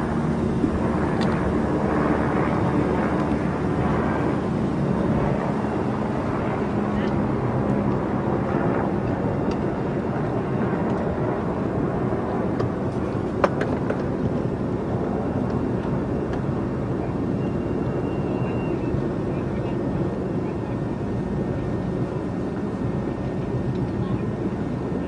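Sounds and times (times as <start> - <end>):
motorboat engine and water rush: 0.0 - 25.0.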